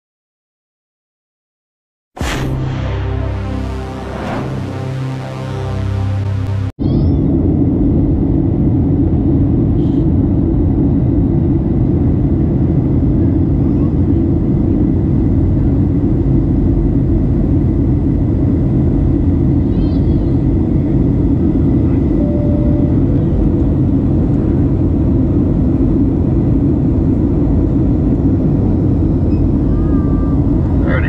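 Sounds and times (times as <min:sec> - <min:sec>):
airplane cabin engine roar: 0:02.2 - 0:31.0.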